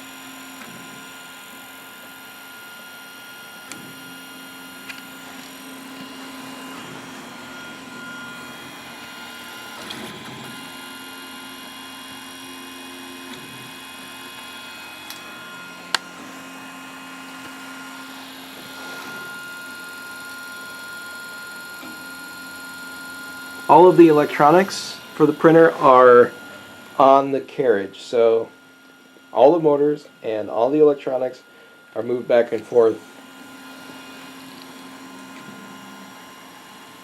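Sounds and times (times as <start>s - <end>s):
stepper motors whining: 0.0s - 37.0s.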